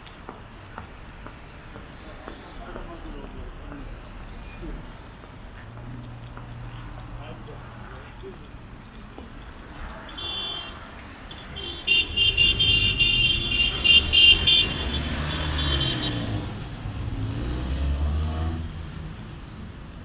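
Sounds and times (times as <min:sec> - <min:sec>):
road traffic engines rumbling: 0:00.0 - 0:20.0.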